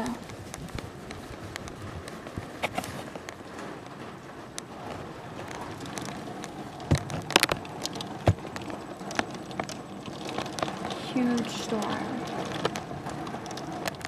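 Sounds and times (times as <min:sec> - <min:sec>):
heavy rain pouring: 0:00.0 - 0:14.0
sharp clicks and knocks: 0:00.0 - 0:14.0.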